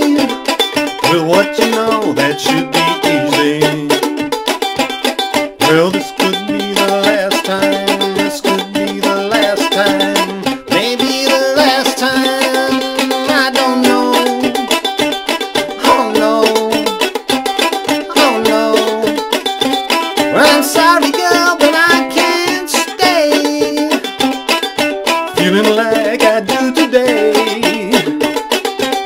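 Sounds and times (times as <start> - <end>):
ukulele playing: 0.0 - 29.0.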